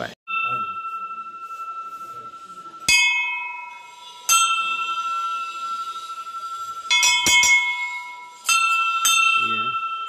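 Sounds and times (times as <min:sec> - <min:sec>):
temple bell ringing: 0:00.3 - 0:10.0.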